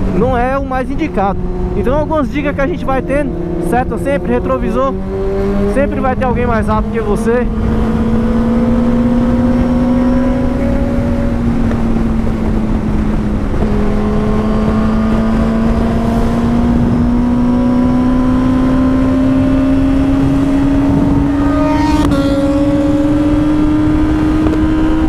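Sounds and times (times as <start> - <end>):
motorcycle engine at highway speed: 0.0 - 25.0
road noise: 0.0 - 25.0
wind rush: 0.0 - 25.0.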